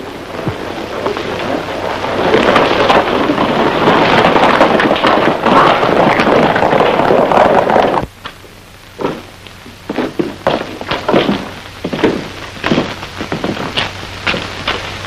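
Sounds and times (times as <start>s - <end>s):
horses galloping on dirt: 0.3s - 8.1s, 9.9s - 14.8s.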